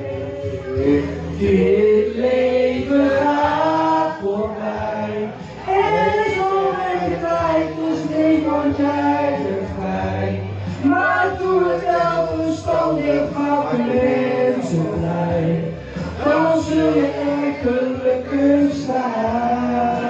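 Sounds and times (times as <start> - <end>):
backing music with bass: 0.0 - 20.0
man singing: 0.0 - 20.0.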